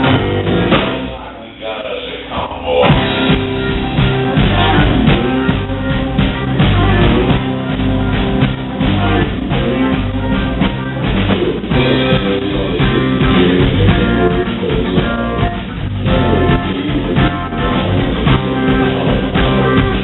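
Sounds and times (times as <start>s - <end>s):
drum kit beat: 0.0s - 1.4s, 2.8s - 20.0s
electric guitar: 2.9s - 20.0s.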